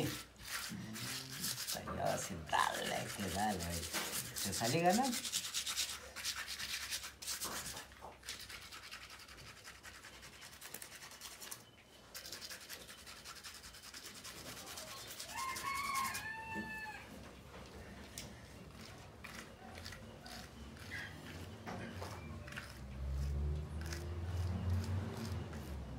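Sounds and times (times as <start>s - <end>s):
hand rubbing paint on paper: 0.0s - 16.6s, 18.7s - 25.9s.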